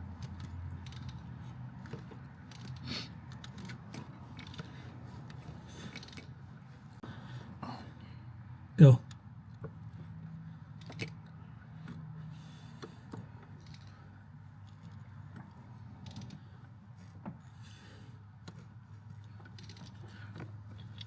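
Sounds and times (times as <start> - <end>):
faint mechanical clicks and ticks: 0.0 - 7.1, 9.0 - 21.0.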